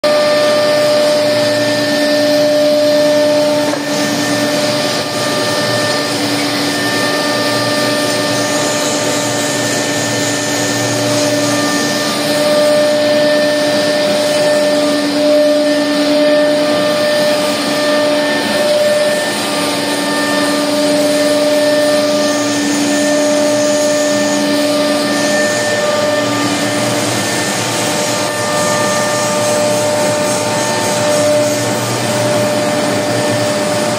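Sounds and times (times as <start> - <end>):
lathe machine whine: 0.0 - 33.9.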